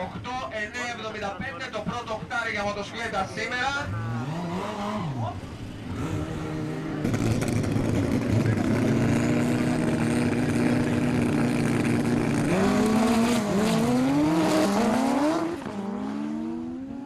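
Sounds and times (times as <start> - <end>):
motorcycle engines revving: 3.1 - 17.0.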